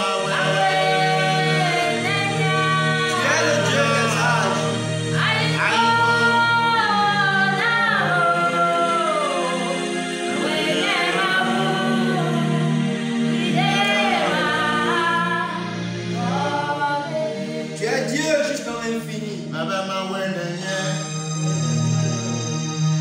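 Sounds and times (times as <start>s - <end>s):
steady low drone: 0.0s - 19.7s
voices singing gospel song: 0.0s - 21.2s.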